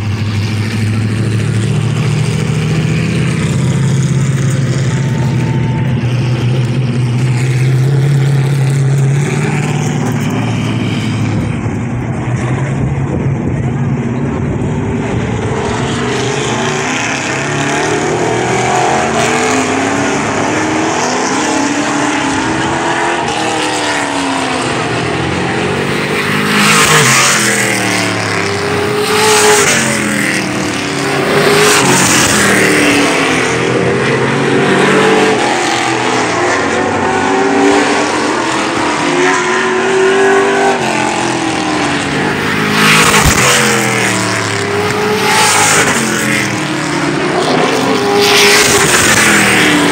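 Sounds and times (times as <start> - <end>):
race car engines: 0.0 - 49.9
race car passing close: 0.0 - 49.9.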